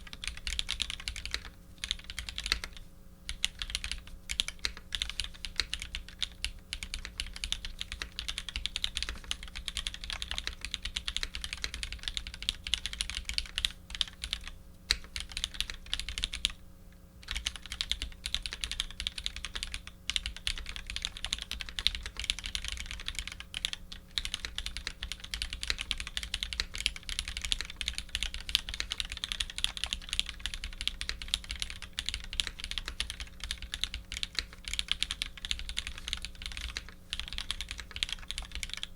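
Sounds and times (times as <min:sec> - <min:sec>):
mechanical keyboard typing: 0:00.0 - 0:16.6, 0:17.2 - 0:38.9.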